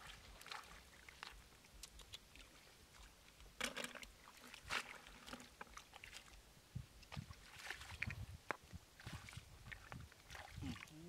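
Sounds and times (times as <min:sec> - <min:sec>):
small splashes and squelches: 0:00.0 - 0:06.4, 0:07.0 - 0:08.3, 0:09.0 - 0:11.0.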